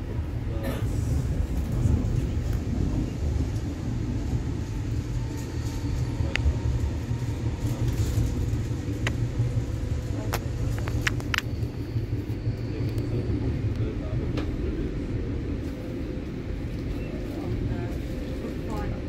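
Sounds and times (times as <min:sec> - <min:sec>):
train running gear rumble: 0:00.0 - 0:19.0.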